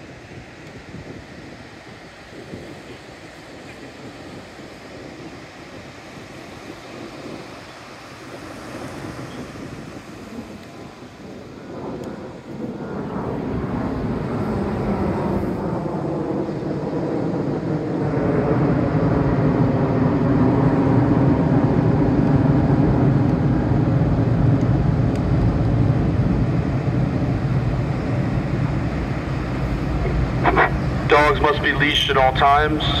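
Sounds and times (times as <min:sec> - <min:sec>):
low engine drone: 0:00.0 - 0:33.0.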